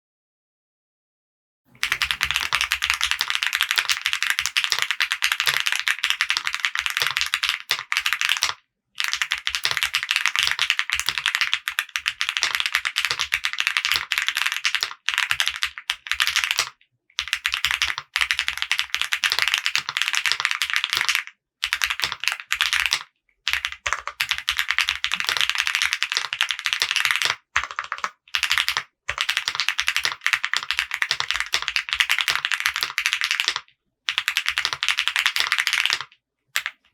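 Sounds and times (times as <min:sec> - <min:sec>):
typing on mechanical keyboard: 0:01.7 - 0:36.9.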